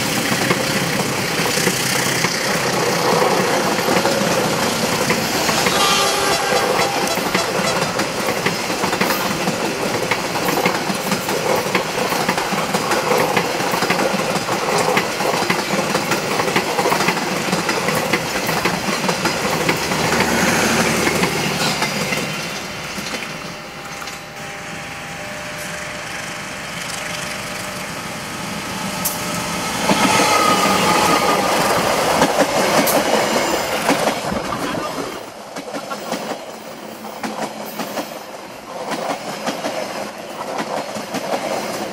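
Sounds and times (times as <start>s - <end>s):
passenger train passing: 0.0s - 41.9s.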